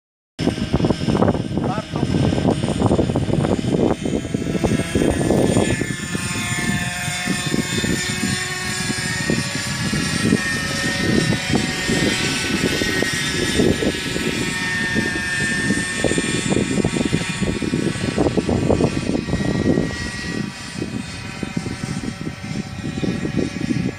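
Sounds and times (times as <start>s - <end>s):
model helicopter engine and rotor: 0.4s - 23.9s
wind buffeting microphone: 0.4s - 23.9s.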